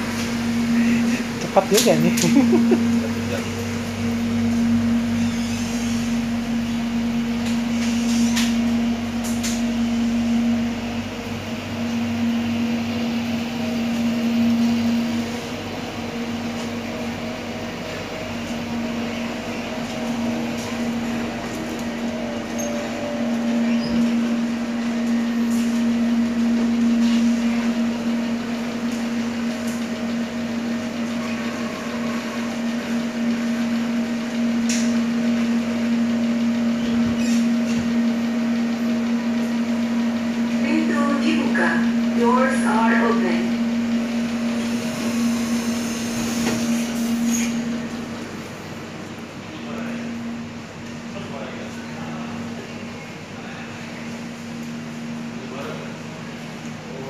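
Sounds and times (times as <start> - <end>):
train cabin low hum: 0.0 - 57.0
train running noise: 0.0 - 57.0.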